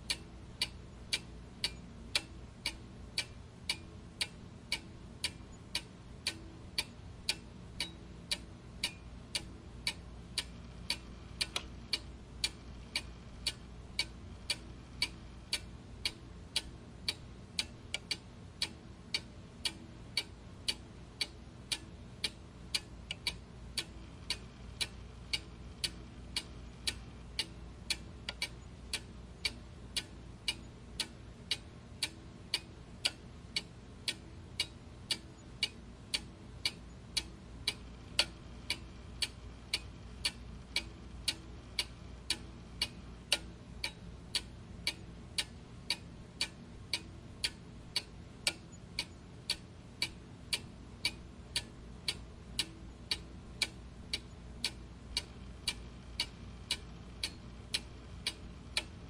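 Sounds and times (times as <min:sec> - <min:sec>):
faint low hum: 0:00.0 - 0:59.0
clock ticking: 0:00.1 - 0:59.0.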